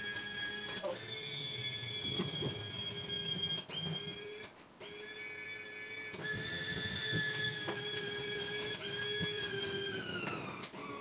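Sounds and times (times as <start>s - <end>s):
hydraulic pump whining: 0.0s - 11.0s.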